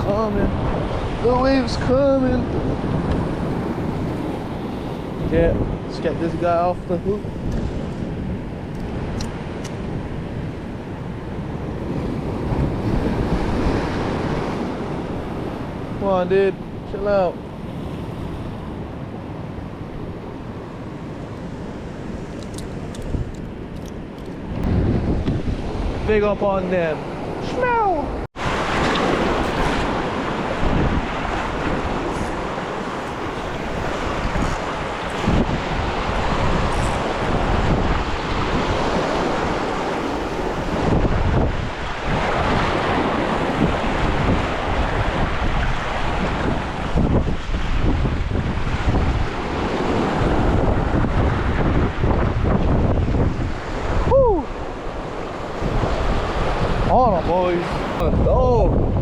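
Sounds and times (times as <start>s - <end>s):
ocean waves on shore: 0.0s - 59.0s
wind buffeting microphone: 0.0s - 59.0s.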